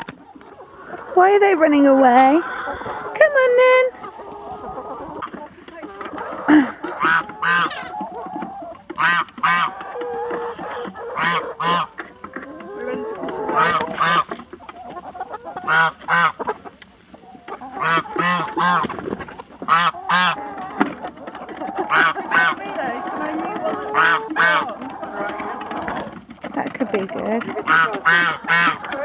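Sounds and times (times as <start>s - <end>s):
poultry honk-like calls: 0.0s - 5.3s, 5.9s - 26.1s, 27.5s - 29.0s
quiet clucking: 0.0s - 29.0s.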